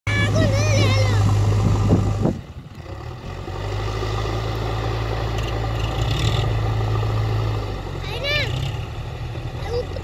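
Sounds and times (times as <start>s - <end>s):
diesel engines droning: 0.1s - 10.0s.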